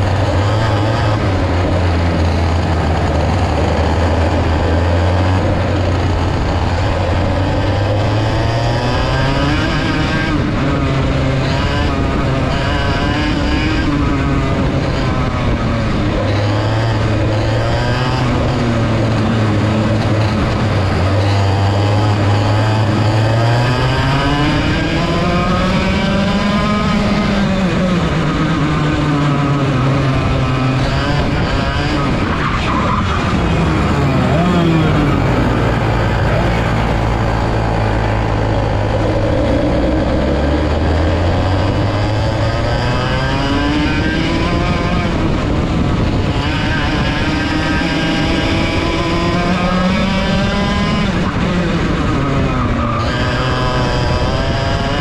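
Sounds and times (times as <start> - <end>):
kart engine revving: 0.0 - 55.0
other kart engines: 0.0 - 55.0.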